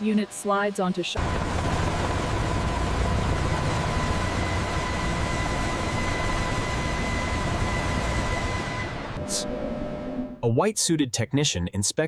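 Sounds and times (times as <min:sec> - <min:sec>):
aircraft engines and rotors rushing: 0:00.0 - 0:10.4
high steady whine: 0:00.0 - 0:10.4.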